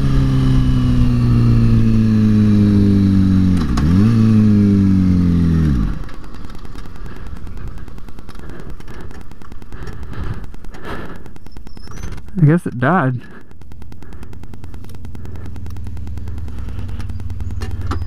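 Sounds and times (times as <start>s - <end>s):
motorcycle engine running: 0.0s - 18.0s
wind and road noise: 0.0s - 18.0s.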